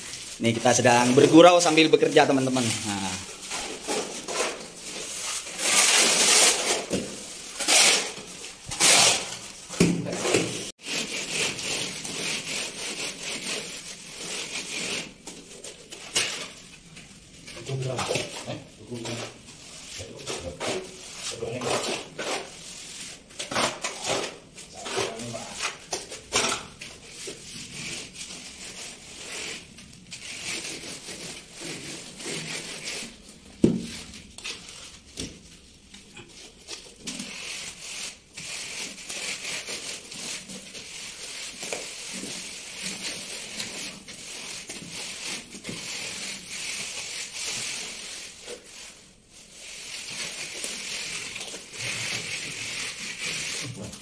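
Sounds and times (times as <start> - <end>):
tools scraping wet plaster: 0.0 - 54.0.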